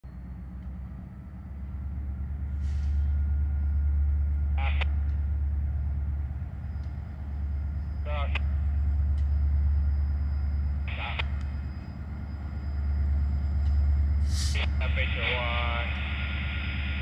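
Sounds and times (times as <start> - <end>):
distant freight train rumbling: 0.0 - 17.0.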